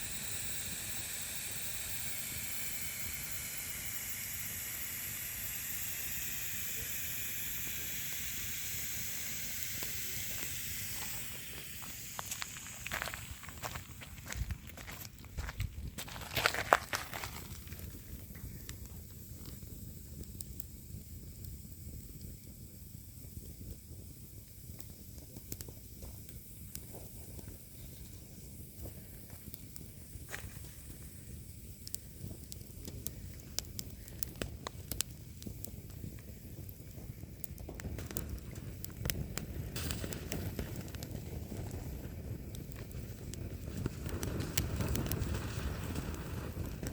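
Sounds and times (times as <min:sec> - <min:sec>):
campfire hissing: 0:00.0 - 0:46.9
fire crackling and popping: 0:00.0 - 0:46.9.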